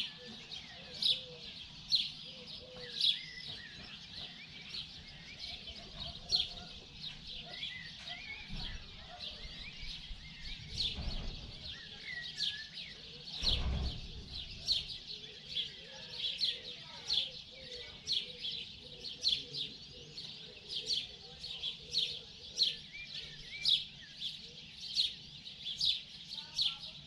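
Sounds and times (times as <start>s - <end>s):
birds chirping: 0.0s - 27.0s
soft bird calls: 0.0s - 27.0s.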